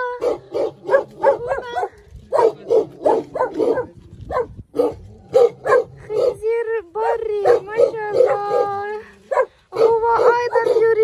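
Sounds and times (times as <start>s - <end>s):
dog barking: 0.1s - 6.4s, 7.0s - 11.0s.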